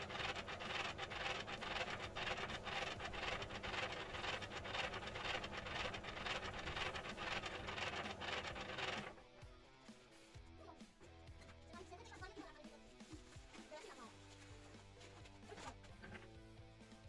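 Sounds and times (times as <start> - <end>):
cement mixer churning: 0.0 - 9.4, 10.8 - 17.0.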